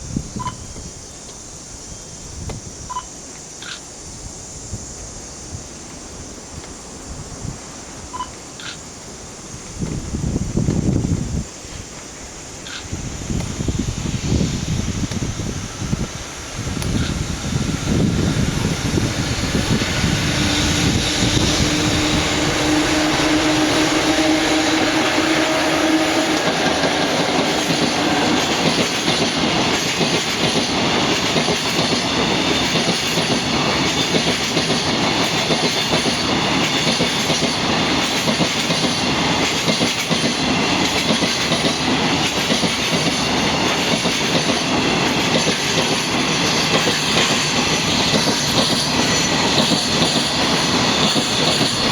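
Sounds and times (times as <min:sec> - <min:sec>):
freight train wagons rolling on rails: 0:07.8 - 0:51.9.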